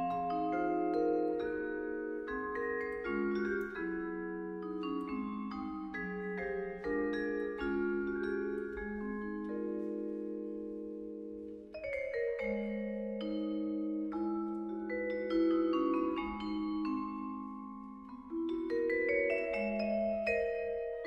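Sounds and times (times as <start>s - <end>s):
solo vibraphone melody: 0.0s - 21.0s.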